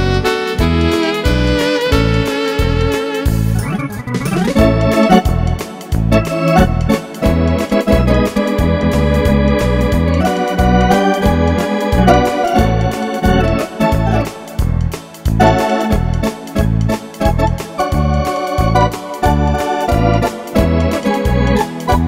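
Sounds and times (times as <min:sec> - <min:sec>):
electronic organ foxtrot: 0:00.0 - 0:22.0
rhythm section ticks: 0:03.2 - 0:22.0.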